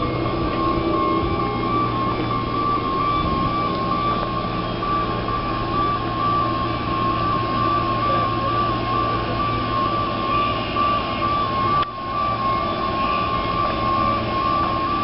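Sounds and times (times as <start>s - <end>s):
electric trolleybus whine and hum: 0.0s - 15.0s.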